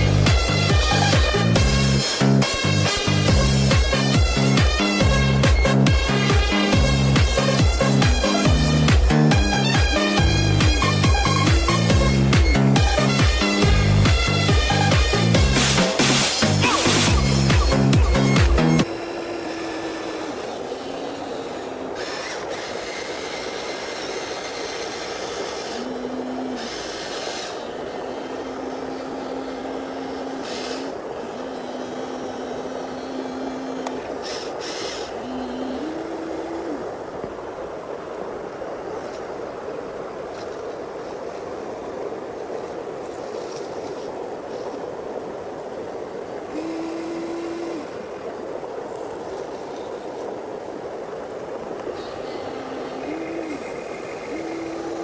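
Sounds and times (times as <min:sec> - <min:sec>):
small electric motor whining: 0:00.0 - 0:38.2, 0:46.4 - 0:48.3, 0:48.9 - 0:50.4, 0:51.7 - 0:55.0
stream water flowing: 0:00.0 - 0:55.0.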